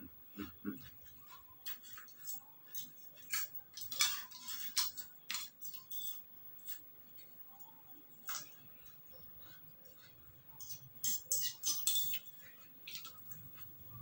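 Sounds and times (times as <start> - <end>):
utensils clinking against dishes: 0.8 - 7.4, 8.2 - 13.8.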